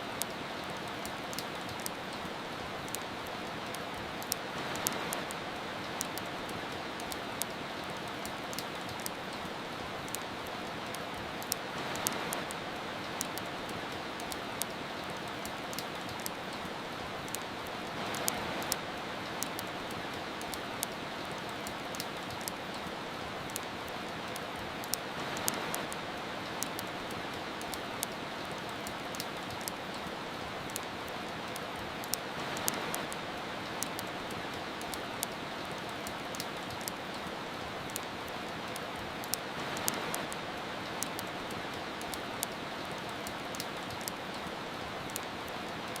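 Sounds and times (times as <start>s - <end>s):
rain hiss: 0.0s - 46.0s
wood fire crackling: 0.0s - 46.0s.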